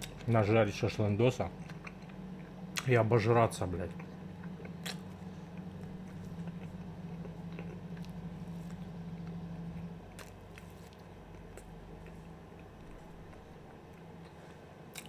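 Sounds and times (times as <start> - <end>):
steady low hum: 0.0 - 15.0
person chewing food: 1.6 - 2.9, 3.9 - 15.0.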